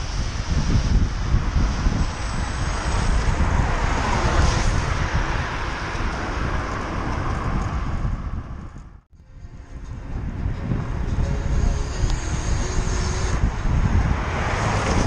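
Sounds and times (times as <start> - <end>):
road traffic: 0.0 - 15.0
wind on microphone: 0.0 - 15.0.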